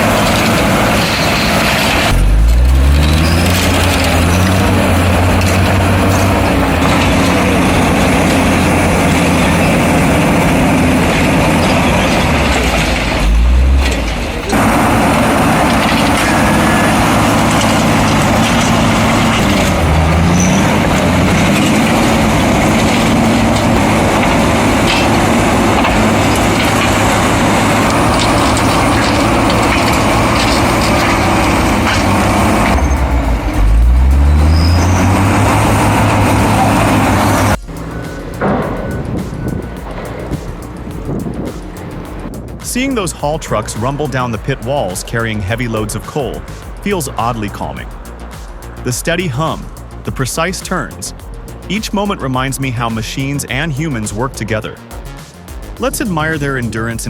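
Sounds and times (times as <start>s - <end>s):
heavy diesel machinery revving: 0.0s - 57.0s.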